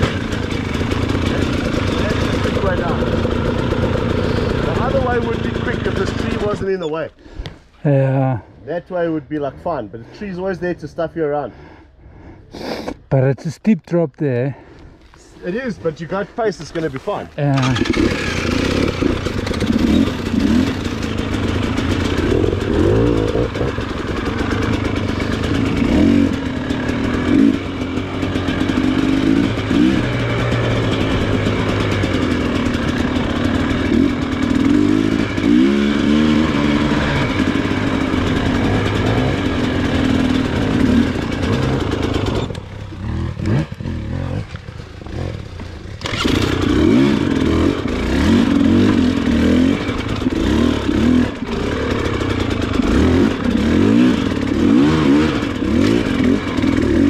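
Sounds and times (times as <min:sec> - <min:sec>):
motorbike engine revving: 0:00.0 - 0:06.8, 0:15.9 - 0:57.0.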